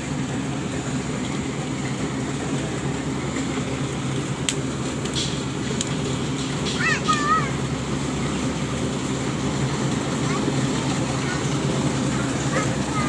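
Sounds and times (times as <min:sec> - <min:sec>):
combine harvester engine hum: 0:00.0 - 0:13.0.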